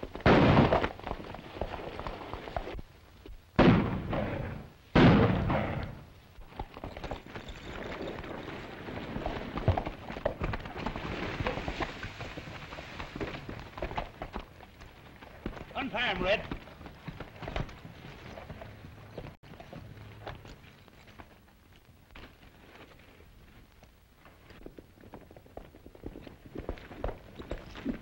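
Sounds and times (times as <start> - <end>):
horse hooves on dirt: 0.0 - 3.6, 5.6 - 28.0.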